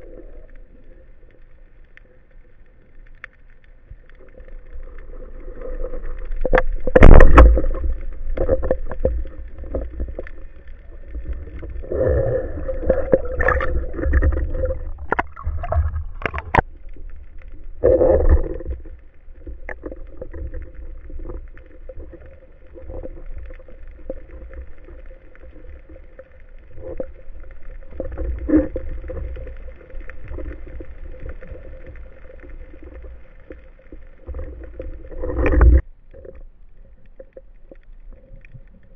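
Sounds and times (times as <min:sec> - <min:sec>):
water gurgling and rushing: 0:04.1 - 0:38.9.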